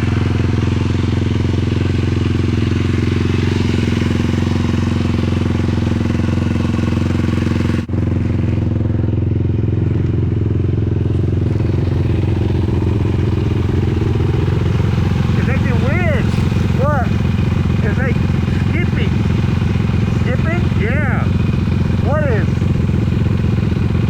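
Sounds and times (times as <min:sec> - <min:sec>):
quad engine running: 0:00.0 - 0:24.0.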